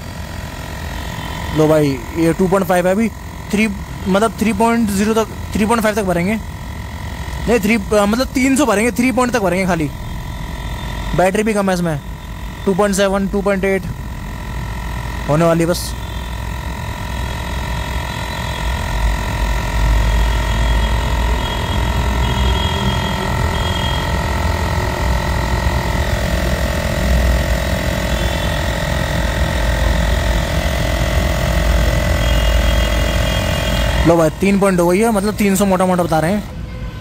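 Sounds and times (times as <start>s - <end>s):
small compressor running: 0.0s - 37.0s.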